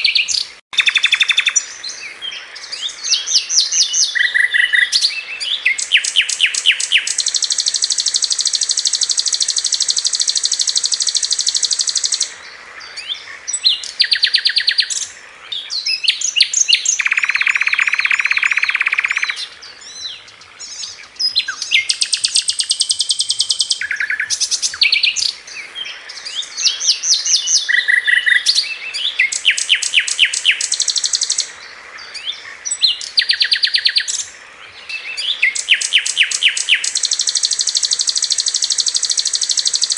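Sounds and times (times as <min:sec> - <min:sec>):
flycatcher song: 0:00.0 - 0:39.9.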